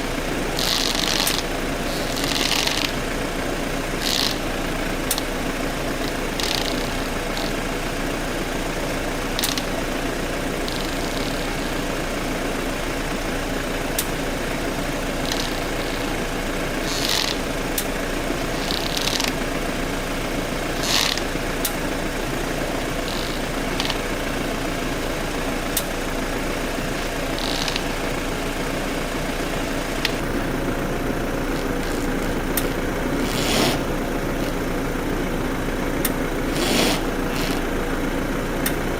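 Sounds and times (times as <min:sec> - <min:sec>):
car engine idling: 0:00.0 - 0:38.9
sharp ticking from wheel: 0:00.0 - 0:38.9.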